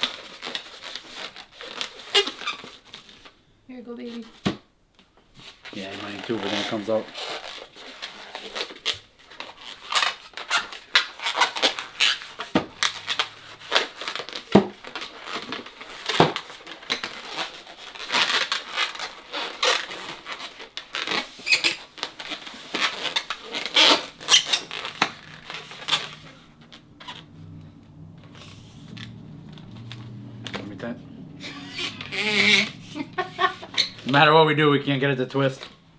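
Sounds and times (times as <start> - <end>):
balloon squeaking and rubbing: 0.0 - 3.3, 5.4 - 27.6, 28.2 - 35.6.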